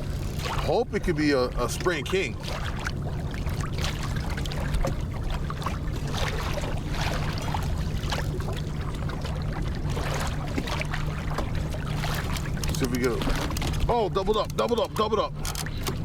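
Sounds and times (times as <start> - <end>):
steady low hum: 0.0 - 16.0
water slapping against kayak hull: 0.0 - 16.0.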